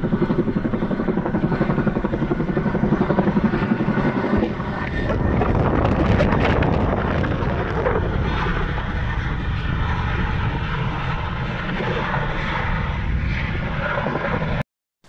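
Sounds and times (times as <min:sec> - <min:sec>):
helicopter flying overhead: 0:00.0 - 0:14.6.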